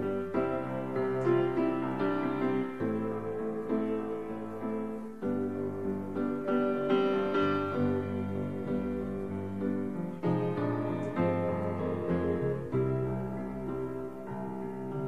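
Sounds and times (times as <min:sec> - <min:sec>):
piano playing slow rock ballad: 0:00.0 - 0:15.0.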